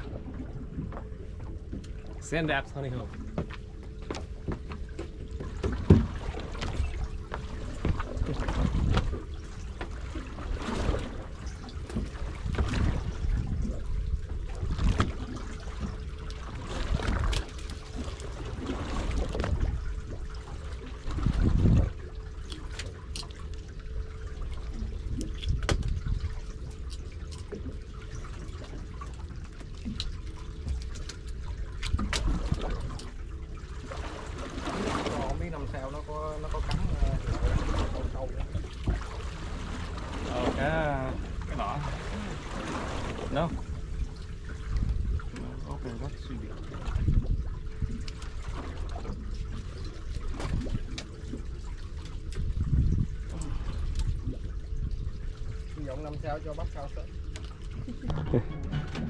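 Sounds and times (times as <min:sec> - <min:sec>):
water lapping around boat: 0:00.0 - 0:59.0.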